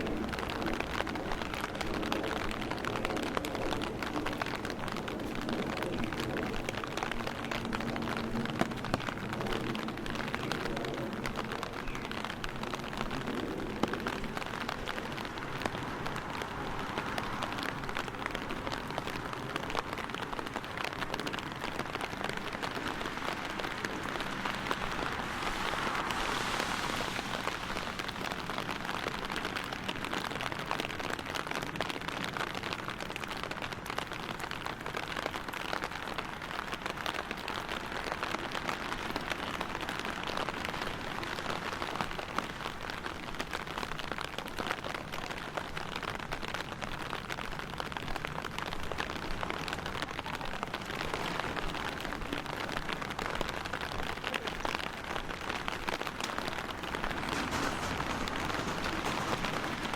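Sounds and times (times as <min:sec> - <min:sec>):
raindrops ticking: 0:00.0 - 0:59.9
steady rain falling: 0:00.0 - 0:59.9.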